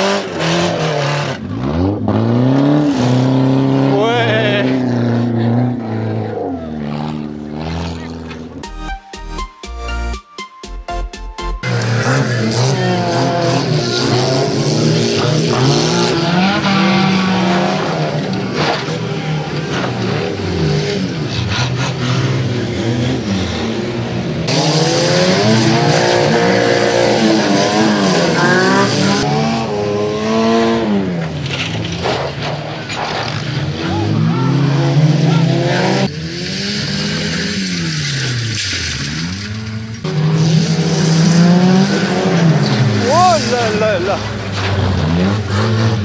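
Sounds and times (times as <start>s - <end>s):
race car engines revving: 0.0s - 8.6s, 11.6s - 46.0s.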